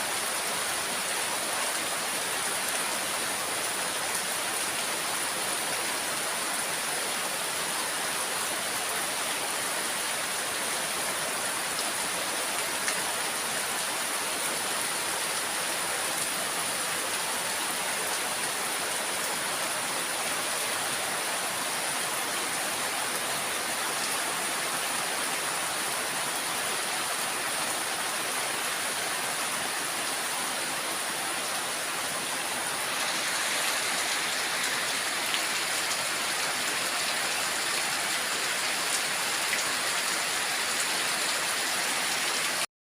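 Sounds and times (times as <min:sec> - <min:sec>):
heavy rain pouring: 0:00.0 - 0:42.7.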